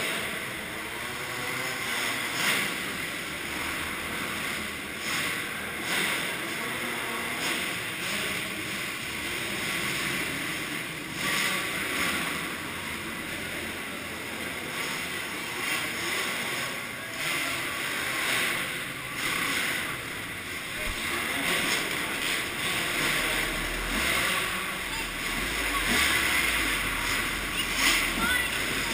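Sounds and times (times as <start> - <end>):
motocross bike engines droning: 0.0 - 28.9.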